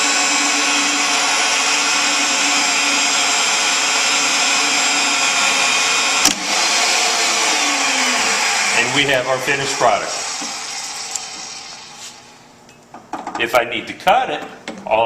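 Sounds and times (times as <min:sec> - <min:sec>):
pipe threading machine running: 0:00.0 - 0:12.2.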